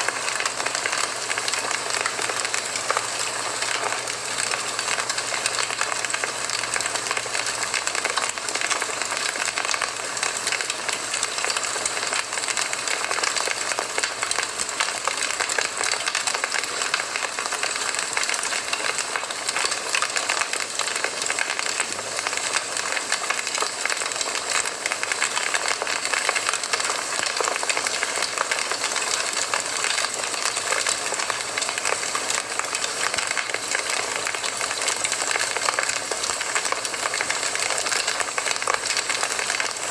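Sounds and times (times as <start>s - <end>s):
campfire crackling and hissing: 0.1s - 39.9s.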